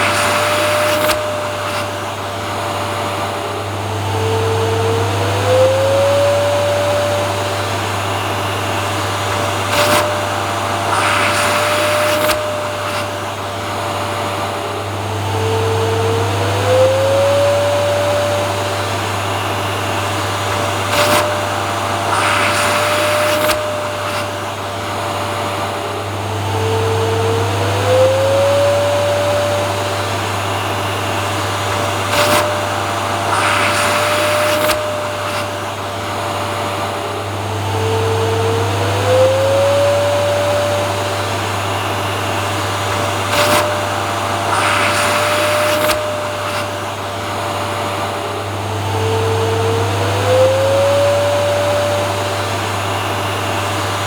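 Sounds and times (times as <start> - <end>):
vacuum cleaner hissing surges: 0.0 - 54.0
vacuum cleaner motor running: 0.0 - 54.0.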